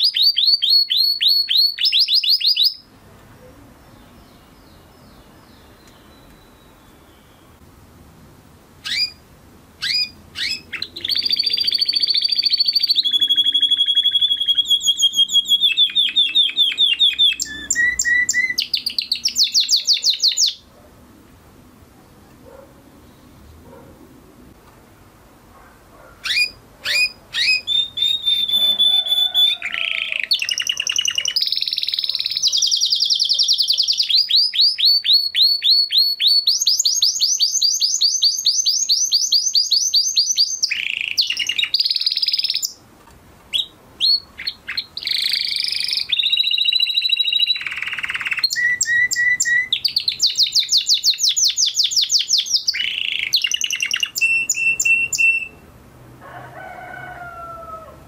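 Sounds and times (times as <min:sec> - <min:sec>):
canary singing trills: 0:00.0 - 0:07.6, 0:08.8 - 0:09.2, 0:09.8 - 0:20.7, 0:26.0 - 0:42.8, 0:43.5 - 0:55.6.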